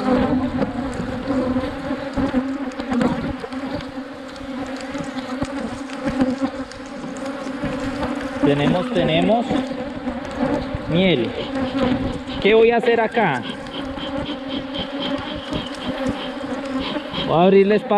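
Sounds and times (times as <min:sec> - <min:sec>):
honey bees buzzing: 0:00.0 - 0:17.9.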